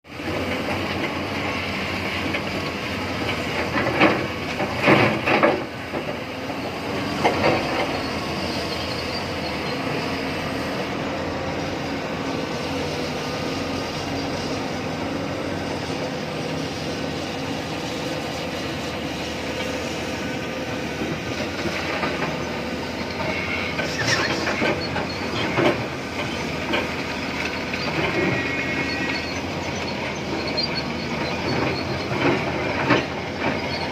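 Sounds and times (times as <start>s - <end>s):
hydraulic excavator running: 0.1s - 33.9s.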